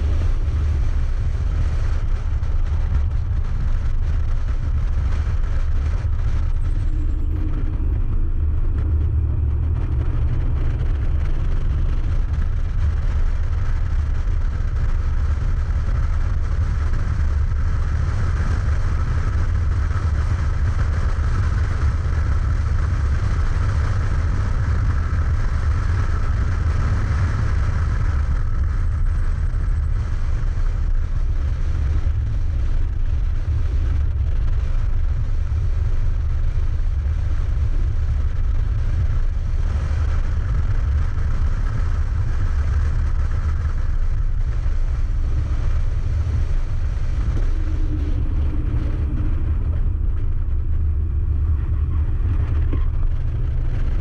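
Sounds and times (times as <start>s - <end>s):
car engine running hard: 0.0s - 54.0s
wind and road noise: 0.0s - 54.0s.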